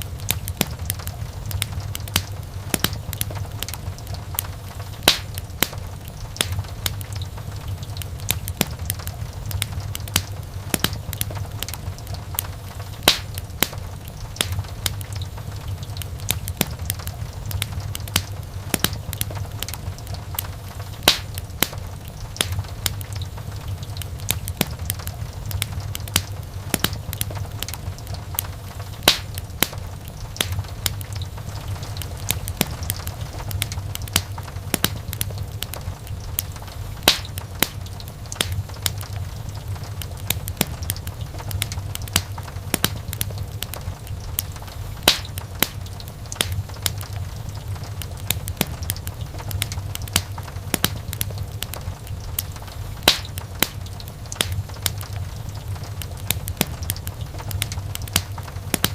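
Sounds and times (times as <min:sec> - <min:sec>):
wood fire burning with pops: 0:00.0 - 0:58.9.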